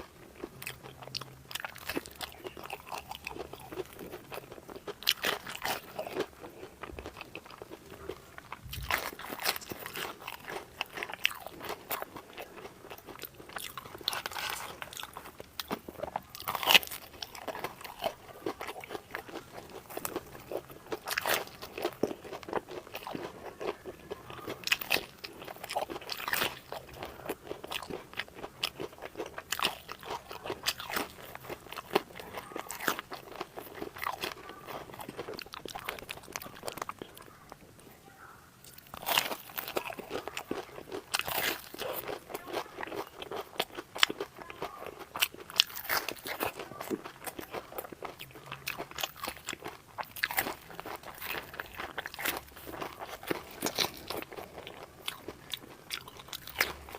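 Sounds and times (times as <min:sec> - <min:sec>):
chewing crunchy food: 0:00.0 - 0:56.9.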